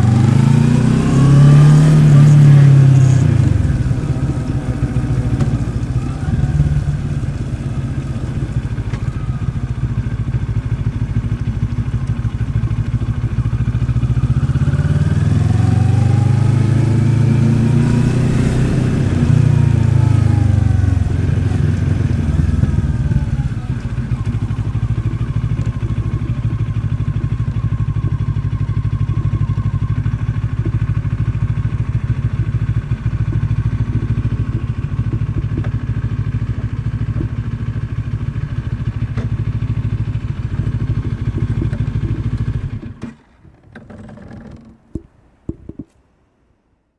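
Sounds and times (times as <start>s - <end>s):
motorcycle engine running: 0.0s - 44.7s.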